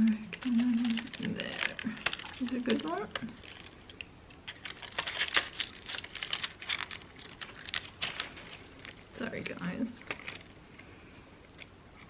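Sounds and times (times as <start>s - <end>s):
crepe paper crinkling: 0.3s - 12.0s.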